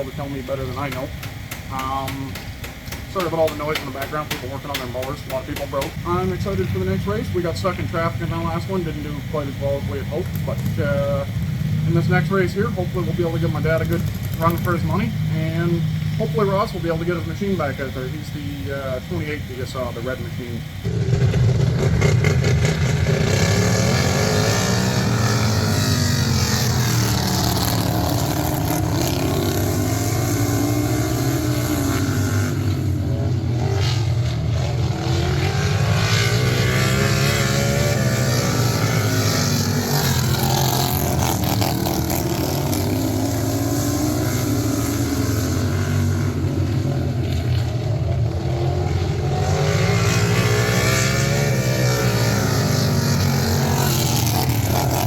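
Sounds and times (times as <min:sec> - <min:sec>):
lawn tractor engines revving: 0:00.0 - 0:55.0.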